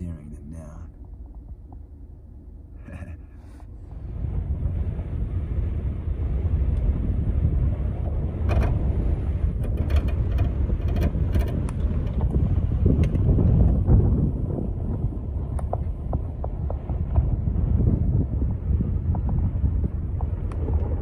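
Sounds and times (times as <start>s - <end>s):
wind buffeting microphone: 3.6s - 21.0s.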